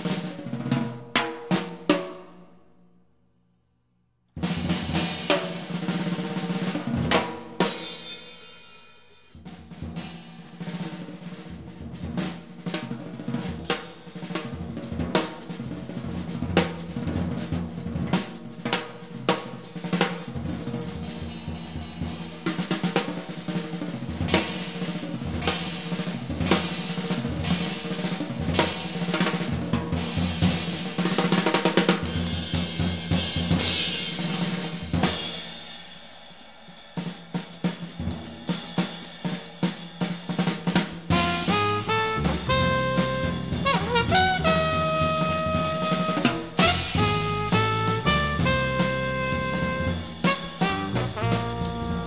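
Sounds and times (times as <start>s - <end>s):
jazz drum kit improvisation: 0.0s - 2.7s, 4.3s - 52.0s
cymbals: 4.4s - 52.0s.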